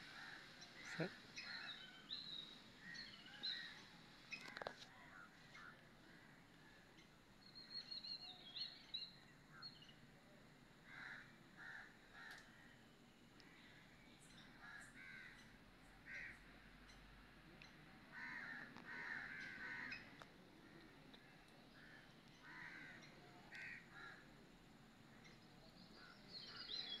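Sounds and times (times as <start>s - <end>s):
faint bird calls: 0.0s - 10.0s, 10.8s - 24.4s.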